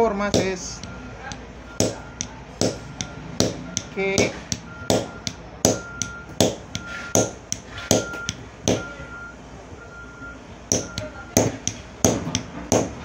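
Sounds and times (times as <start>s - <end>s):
hammer striking metal punch: 0.0s - 9.0s, 10.7s - 13.0s.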